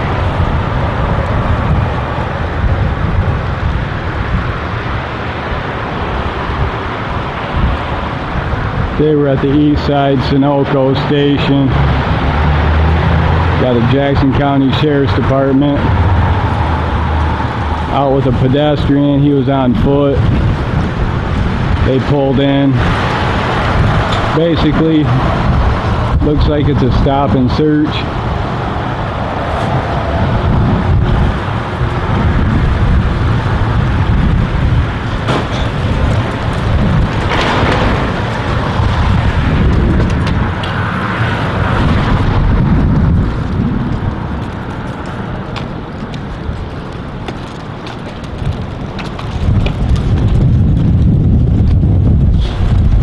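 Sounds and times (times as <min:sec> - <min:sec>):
road traffic passing: 0:00.0 - 0:53.0
wind buffeting microphone: 0:00.0 - 0:53.0.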